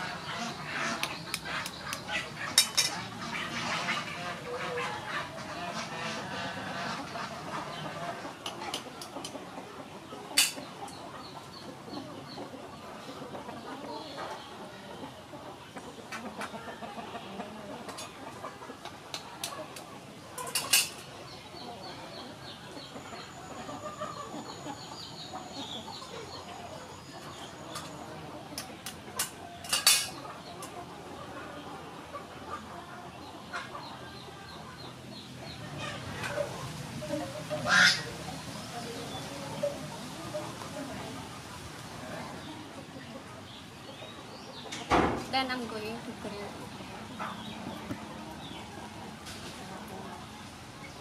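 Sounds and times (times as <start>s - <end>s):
birds calling: 0.0s - 51.0s
chickens clucking: 0.0s - 51.0s.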